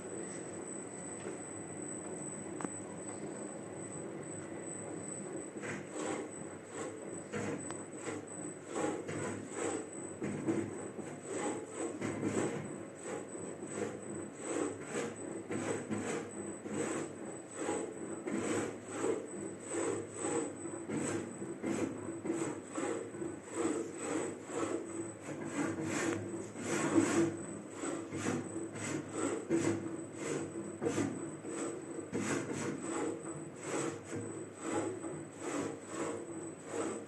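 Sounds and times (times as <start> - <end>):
high-pitched spindle whine: 0.0 - 37.0.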